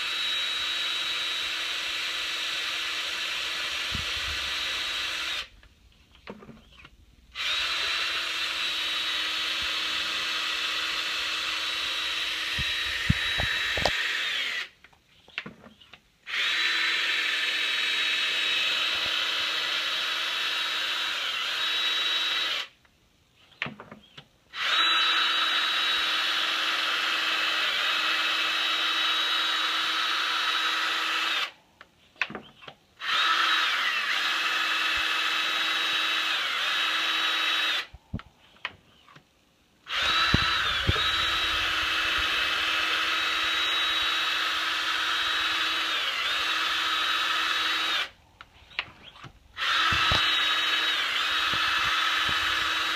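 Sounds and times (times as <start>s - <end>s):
cordless drill whining: 0.0s - 5.6s, 6.2s - 14.8s, 15.7s - 22.8s, 24.0s - 31.6s, 32.5s - 39.2s, 39.8s - 52.9s.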